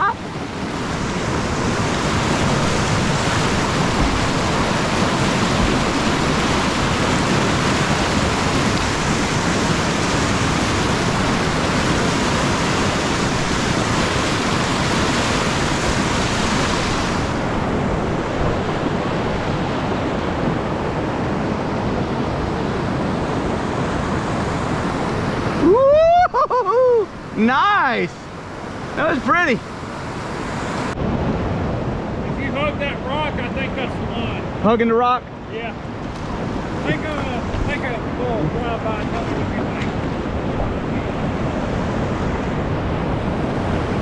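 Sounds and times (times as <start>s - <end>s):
whitewater rapids rushing: 0.0s - 26.3s, 26.9s - 44.0s.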